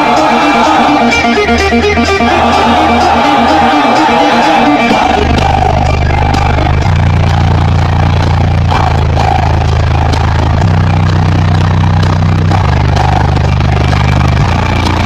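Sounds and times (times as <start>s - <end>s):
deep sustained bass notes: 0.0s - 15.0s
guitar music: 0.0s - 15.0s.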